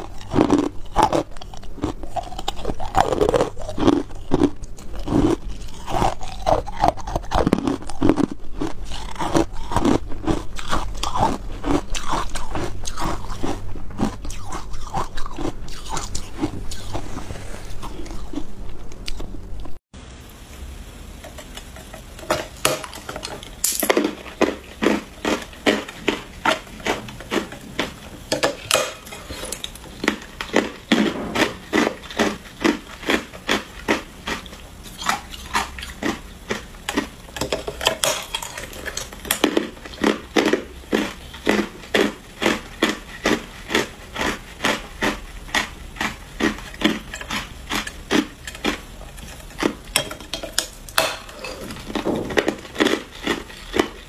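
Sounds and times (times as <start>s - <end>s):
teeth crunching ice: 0.0s - 17.1s, 23.2s - 54.0s.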